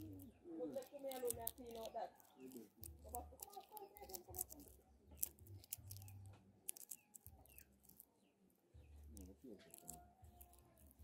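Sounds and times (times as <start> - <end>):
crackling clicks of peeling skin: 0.0 - 11.0.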